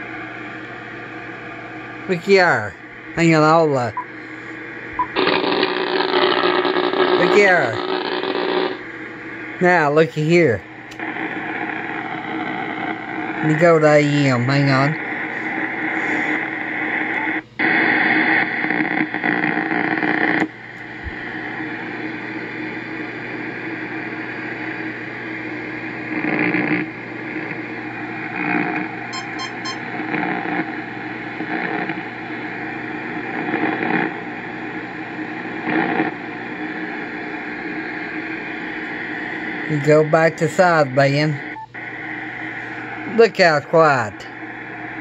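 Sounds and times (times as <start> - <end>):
radio static hiss: 0.0 - 30.8, 31.4 - 45.0.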